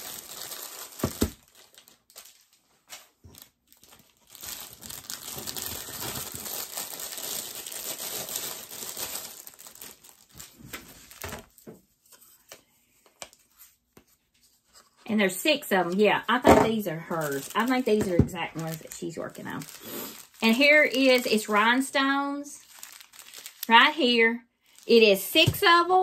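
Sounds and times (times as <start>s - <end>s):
packaging crinkling and tearing: 0.0s - 13.7s, 15.9s - 23.8s.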